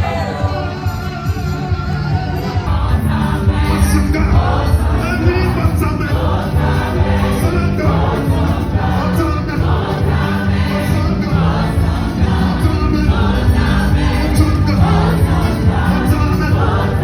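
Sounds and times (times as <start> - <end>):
choir singing gospel: 0.0 - 17.0
steady bass: 0.0 - 17.0.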